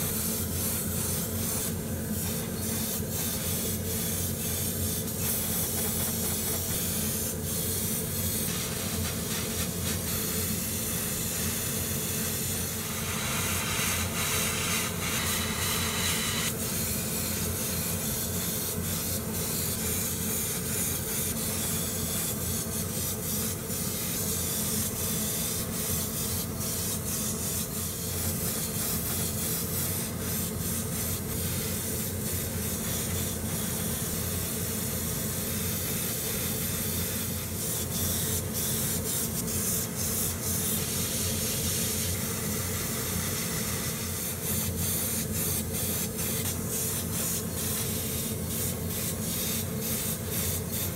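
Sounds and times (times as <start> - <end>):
airbrush spraying hiss: 0.0 - 50.9.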